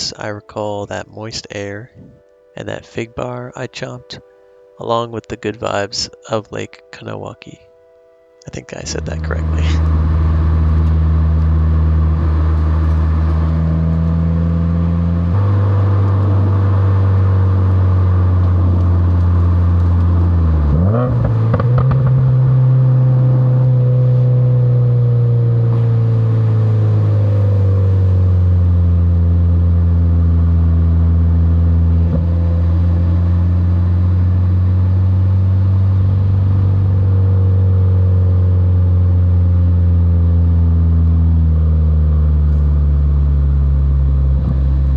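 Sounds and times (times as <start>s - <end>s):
car engine pulling: 8.5s - 44.9s.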